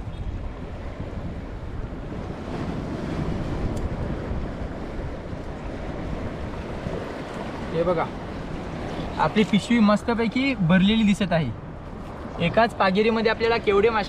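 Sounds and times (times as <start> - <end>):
sea surf washing on shore: 0.0 - 14.0
wind buffeting microphone: 0.0 - 14.0.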